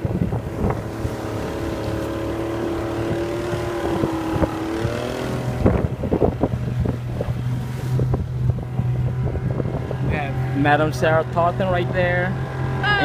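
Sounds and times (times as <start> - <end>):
motorboat engine running: 0.0 - 13.0
wind on microphone: 0.0 - 13.0.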